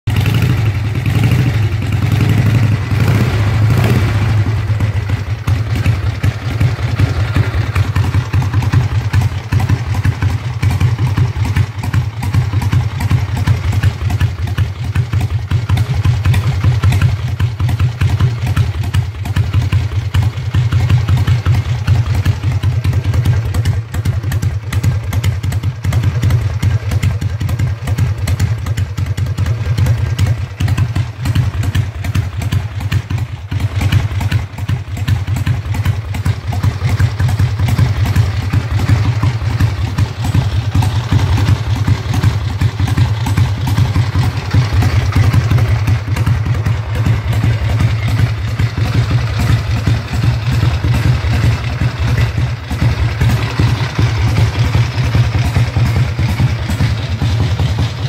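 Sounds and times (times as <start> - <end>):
motorcycle engine idling: 0.1 - 58.0.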